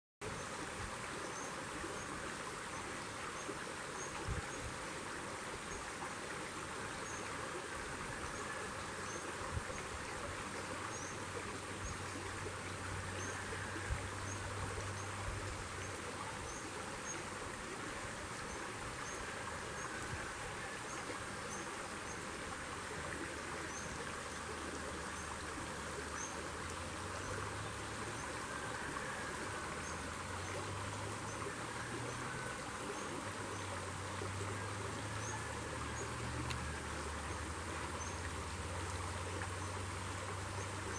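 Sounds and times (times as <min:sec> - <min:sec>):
flowing stream: 0:00.2 - 0:40.9
insects: 0:00.3 - 0:40.9.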